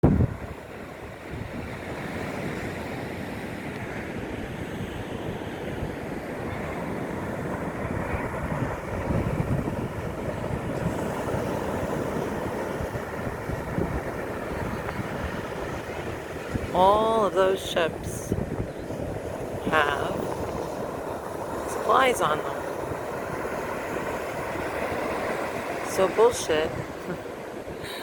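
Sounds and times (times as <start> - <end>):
ocean waves: 0.0 - 28.0
wind rumbling on microphone: 0.0 - 28.0.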